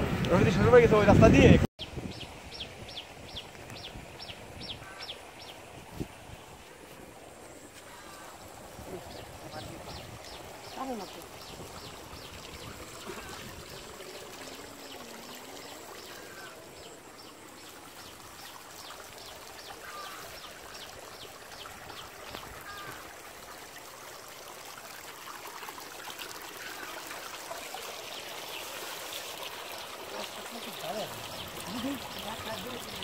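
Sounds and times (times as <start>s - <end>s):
shallow water trickling: 1.9s - 33.0s.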